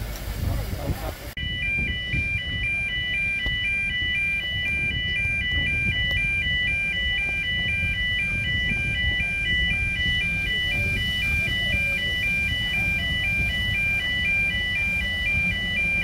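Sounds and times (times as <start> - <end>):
low background rumble: 0.0 - 16.0
two-tone electronic crossing alarm: 1.4 - 16.0.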